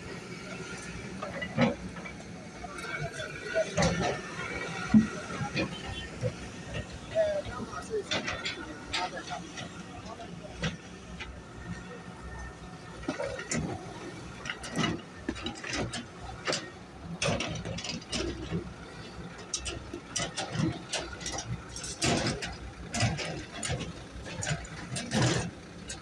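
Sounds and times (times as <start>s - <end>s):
engine rumble: 0.0s - 26.0s.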